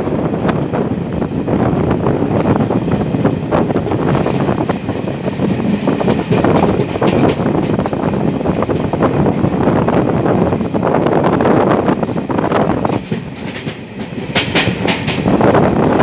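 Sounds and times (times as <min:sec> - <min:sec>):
train rail rumble: 0:00.0 - 0:16.0
wind on microphone: 0:00.0 - 0:16.0.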